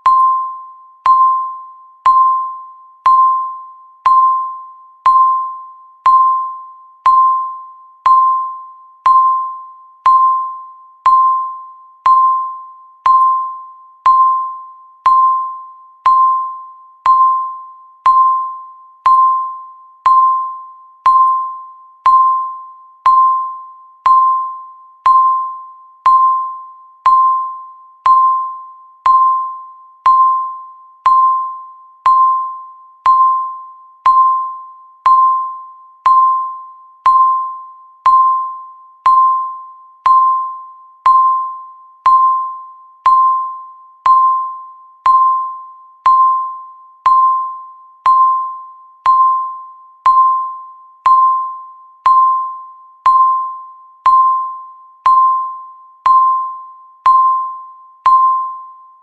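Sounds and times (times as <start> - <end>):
electronic bell-like timer beeps: 0.0 - 59.0.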